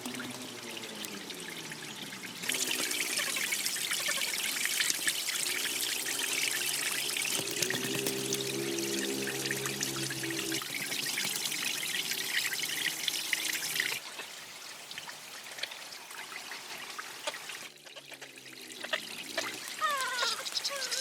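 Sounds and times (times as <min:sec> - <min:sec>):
water trickling and pouring: 0:00.0 - 0:21.0.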